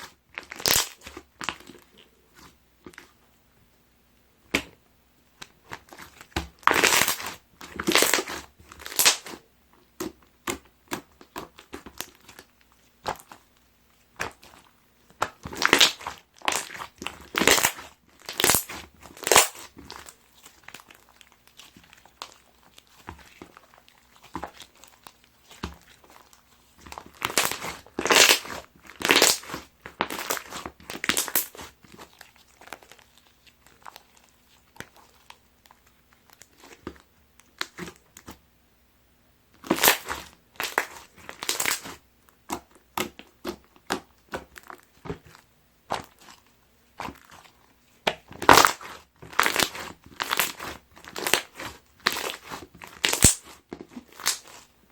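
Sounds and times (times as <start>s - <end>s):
slime crackling and popping: 0.0s - 2.0s, 5.4s - 9.4s, 10.0s - 38.4s, 39.6s - 54.7s.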